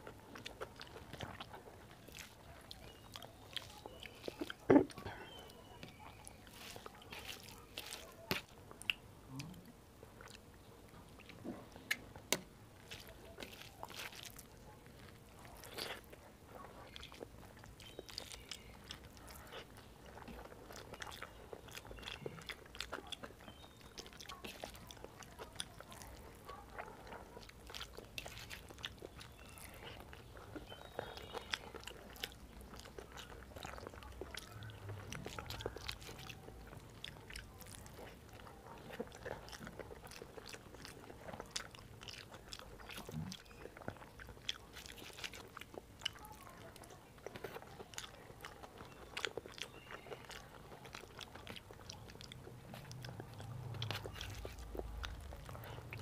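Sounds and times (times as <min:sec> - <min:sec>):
fingers squishing rice on plate: 0:00.0 - 0:10.4, 0:11.2 - 0:56.0
chewing with wet mouth smacks: 0:00.0 - 0:56.0.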